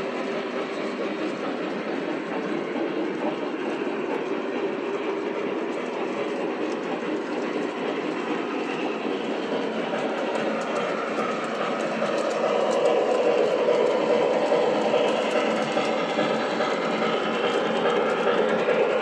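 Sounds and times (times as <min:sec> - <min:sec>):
model trains clattering on track: 0:00.0 - 0:19.0.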